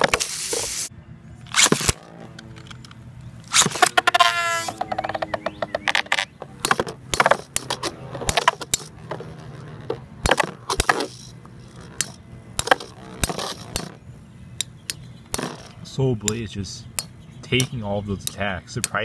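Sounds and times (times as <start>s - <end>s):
low hum of spinning tops: 0.0s - 19.0s.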